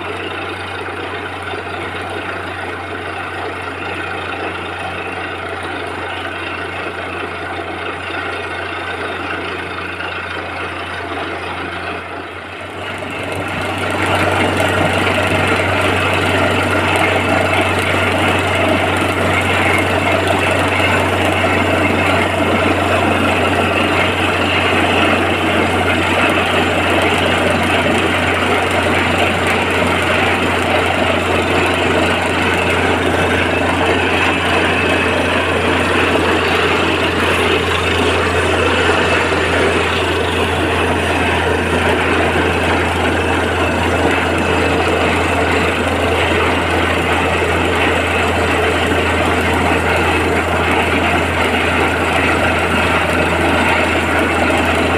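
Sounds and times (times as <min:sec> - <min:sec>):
drilling rig running: 0:00.0 - 0:54.9.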